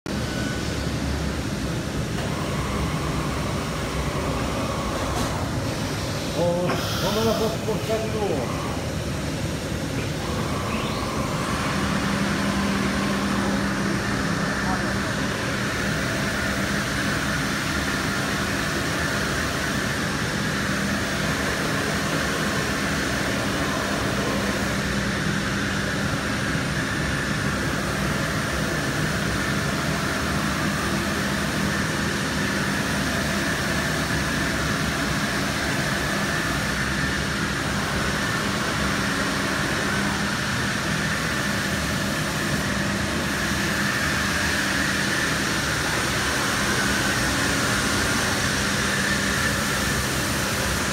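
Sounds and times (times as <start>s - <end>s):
cnc router cutting wood: 0.1s - 50.9s.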